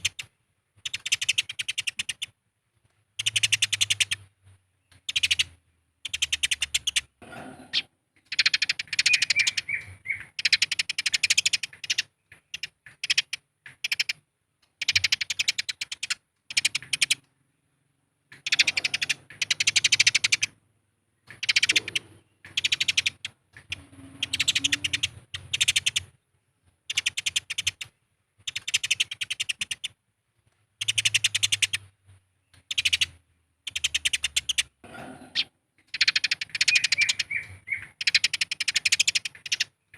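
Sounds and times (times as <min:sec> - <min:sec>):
sparrows harsh chattering calls: 0:00.0 - 0:02.4, 0:03.1 - 0:17.3, 0:18.3 - 0:26.2, 0:26.8 - 0:30.0, 0:30.8 - 0:39.9.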